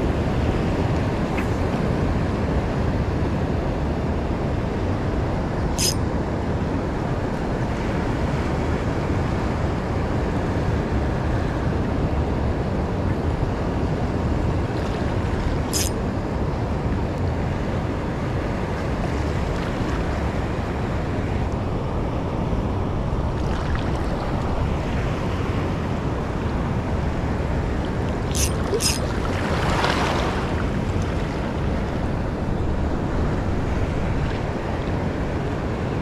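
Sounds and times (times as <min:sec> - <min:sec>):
surf rushing on reef: 0:00.0 - 0:36.0.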